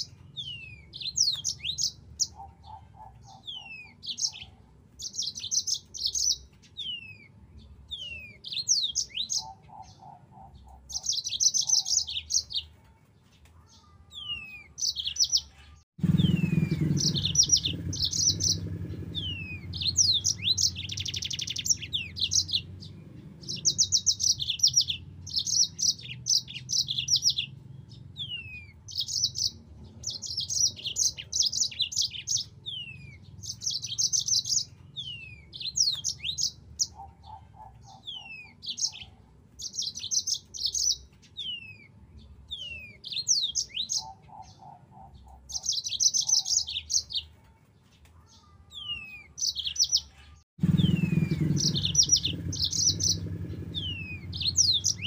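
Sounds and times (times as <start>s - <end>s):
canary singing trills: 0.0s - 47.5s, 48.2s - 55.0s.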